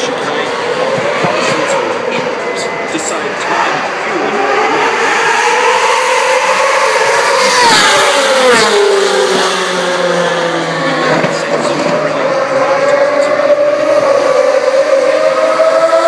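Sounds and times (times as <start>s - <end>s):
racing car passing at high revs: 0.0s - 16.0s.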